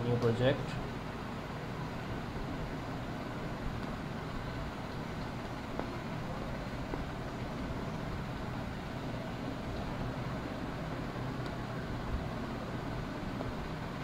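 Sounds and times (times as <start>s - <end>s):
low hum with hiss: 0.0s - 14.0s.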